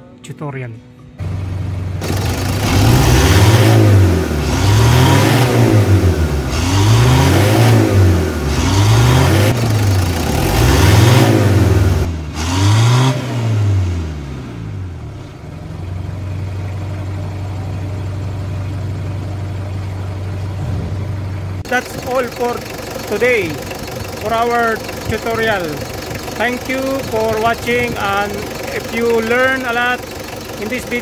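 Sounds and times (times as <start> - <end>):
diesel engine revving and idling: 1.2 - 31.0.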